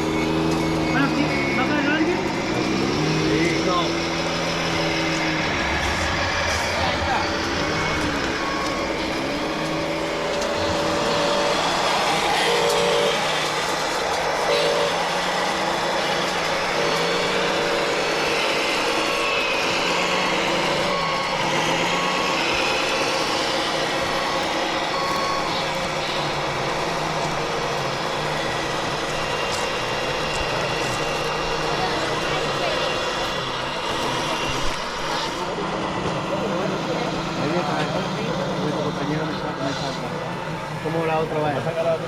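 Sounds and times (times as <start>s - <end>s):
reversing beeper: 0.0s - 42.0s
simulated diesel engine noise: 0.0s - 42.0s.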